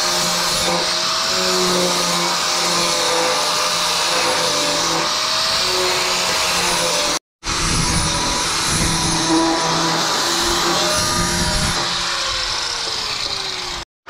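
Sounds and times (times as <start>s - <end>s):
angle grinder grinding steel: 0.0s - 13.8s.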